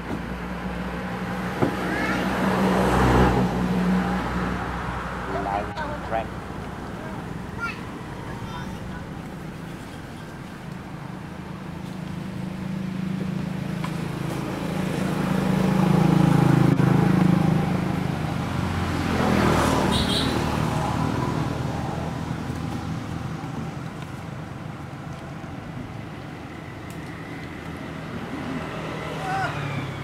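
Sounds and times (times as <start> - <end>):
vehicle engine passing: 0.0 - 30.0.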